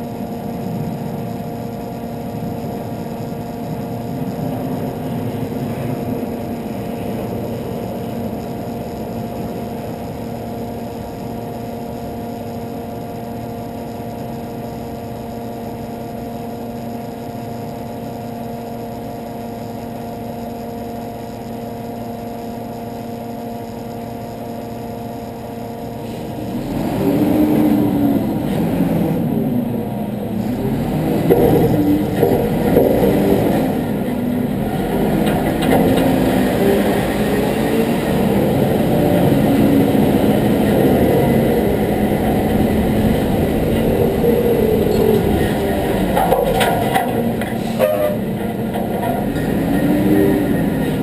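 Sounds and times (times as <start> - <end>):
van engine idling: 0.0 - 51.0.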